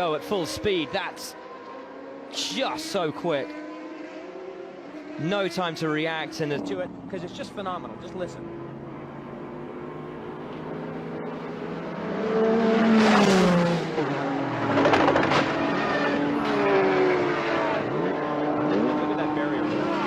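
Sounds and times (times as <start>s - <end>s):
race cars passing at full speed: 0.0s - 20.0s.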